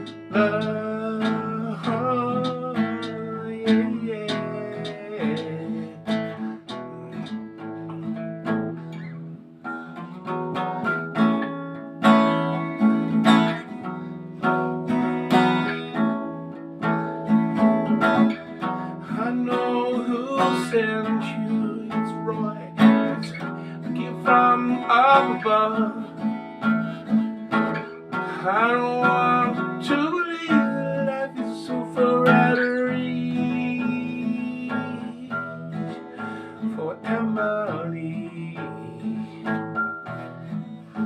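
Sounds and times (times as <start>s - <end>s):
strummed acoustic guitar: 0.0s - 41.0s.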